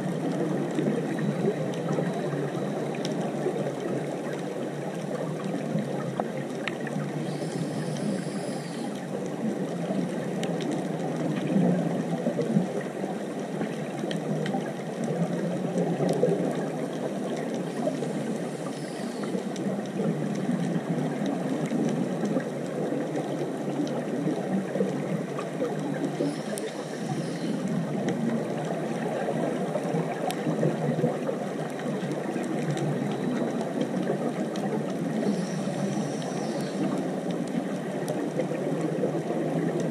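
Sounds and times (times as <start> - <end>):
faint clicks: 0.0 - 39.9
muffled underwater rush: 0.0 - 39.9.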